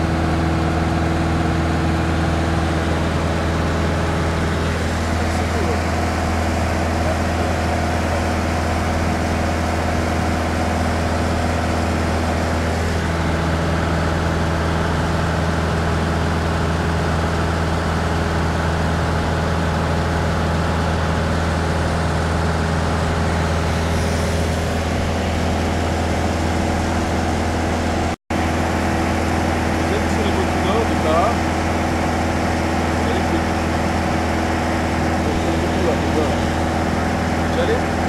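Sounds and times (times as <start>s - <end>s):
aircraft engine droning in cabin: 0.0s - 38.0s.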